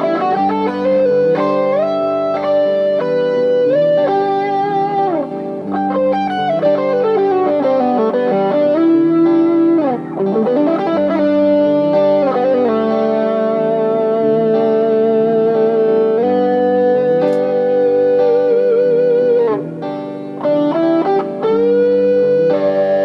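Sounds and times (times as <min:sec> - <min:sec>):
electric guitar lead line: 0:00.0 - 0:23.0.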